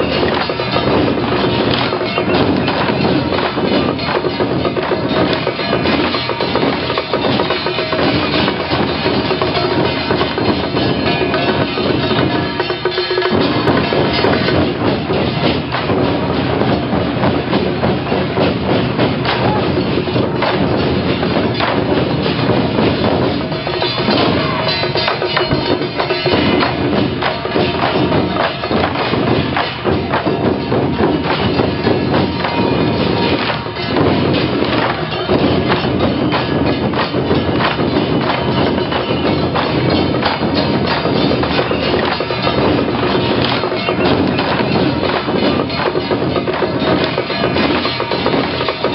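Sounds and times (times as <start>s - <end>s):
temple procession percussion: 0.0s - 48.9s.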